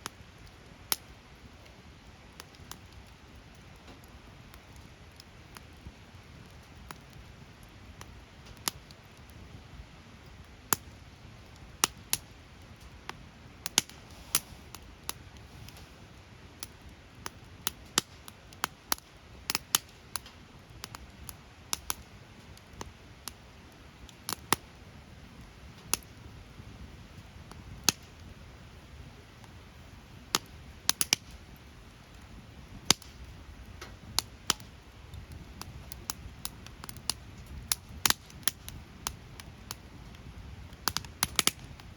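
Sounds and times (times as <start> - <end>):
low rush of burning: 0.0 - 41.9
wood fire crackling: 0.0 - 41.9.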